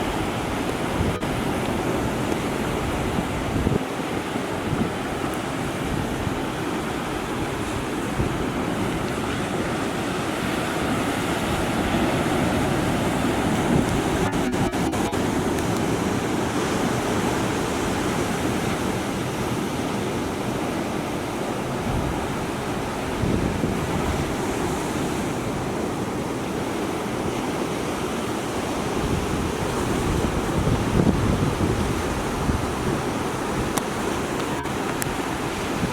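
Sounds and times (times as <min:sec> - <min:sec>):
storm waves breaking on shore: 0:00.0 - 0:35.9
wind buffeting microphone: 0:00.0 - 0:35.9.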